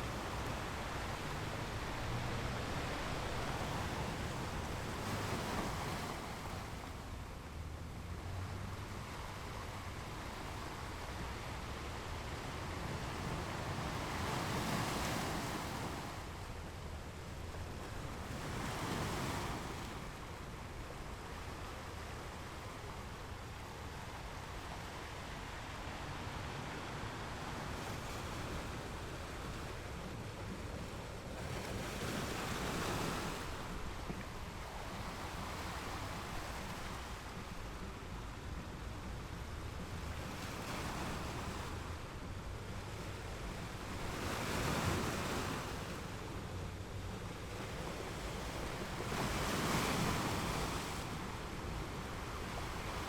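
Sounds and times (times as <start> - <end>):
surf washing: 0.0 - 53.0.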